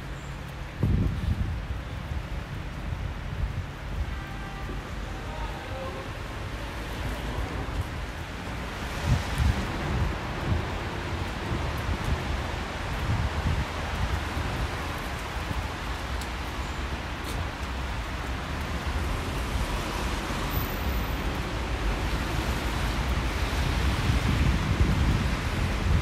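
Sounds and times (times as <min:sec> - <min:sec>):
wet snow hissing on street: 0:00.0 - 0:26.0.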